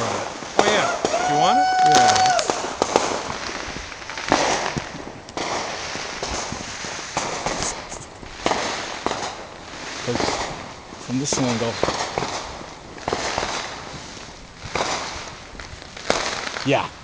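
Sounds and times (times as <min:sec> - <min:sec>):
fireworks bangs and crackles: 0:00.0 - 0:17.0
steady hiss: 0:00.0 - 0:17.0.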